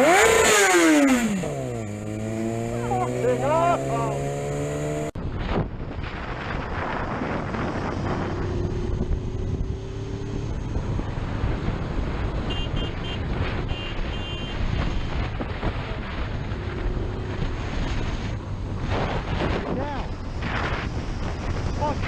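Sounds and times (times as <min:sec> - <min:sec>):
motorcycle engine: 0:00.0 - 0:22.0
wind noise on microphone: 0:04.3 - 0:22.0.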